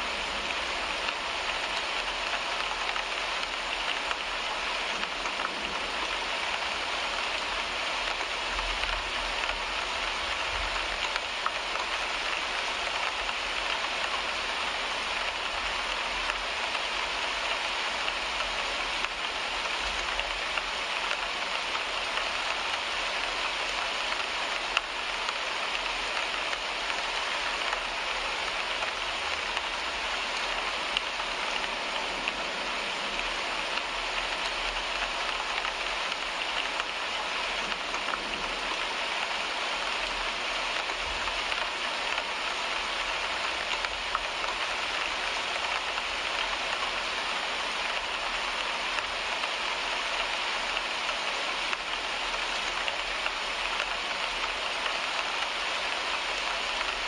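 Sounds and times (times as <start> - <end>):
rain hissing on windshield: 0.0 - 57.0
raindrops tapping on glass: 0.1 - 57.0.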